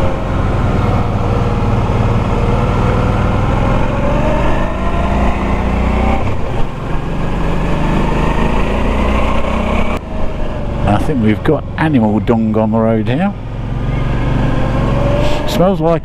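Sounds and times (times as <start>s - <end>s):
motorcycle engine running: 0.0s - 15.7s.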